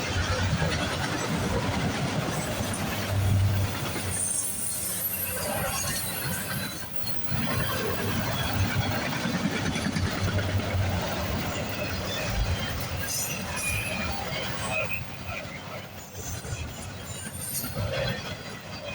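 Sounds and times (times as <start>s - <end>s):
freight train wheels rumbling: 0.0s - 18.9s.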